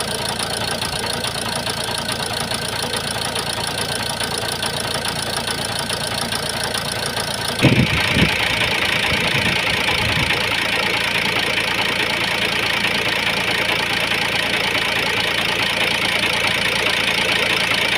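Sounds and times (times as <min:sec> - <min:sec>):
diesel engine idling roughly: 0:00.0 - 0:17.9.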